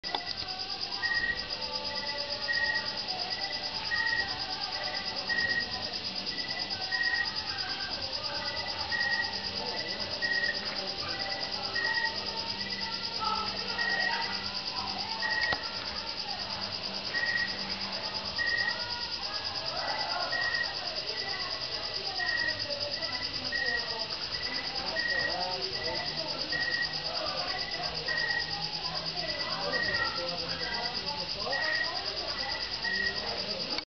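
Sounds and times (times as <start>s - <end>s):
cricket trill: 0.0s - 33.8s
insect chirps: 0.0s - 33.8s
faint distant voices: 0.0s - 33.9s.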